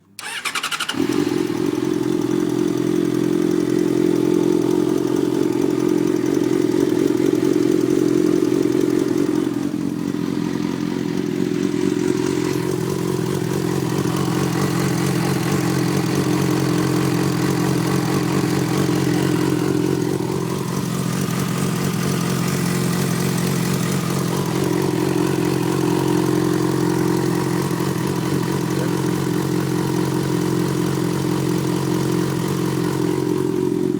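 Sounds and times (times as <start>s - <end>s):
motorcycle engine idling with ticking: 0.0s - 33.9s.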